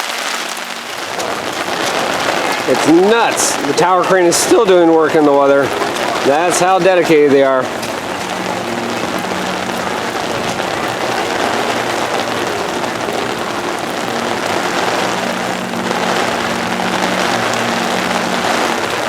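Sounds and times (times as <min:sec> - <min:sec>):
heavy rain falling: 0:00.0 - 0:19.0
low steady hum: 0:00.4 - 0:19.0.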